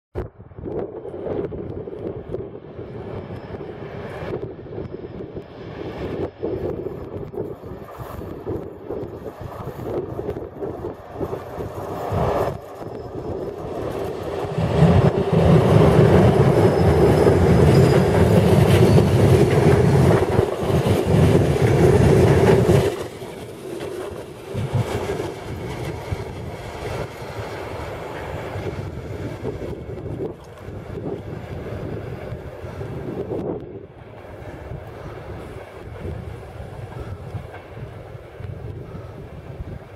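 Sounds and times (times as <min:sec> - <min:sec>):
train wheels rumbling on rails: 0:00.7 - 0:39.9.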